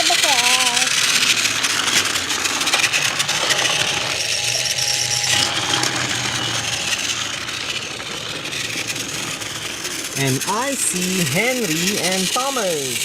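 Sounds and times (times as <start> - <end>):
plastic wheels rattling: 0.0 - 13.0
toy train motor whir: 0.0 - 13.0.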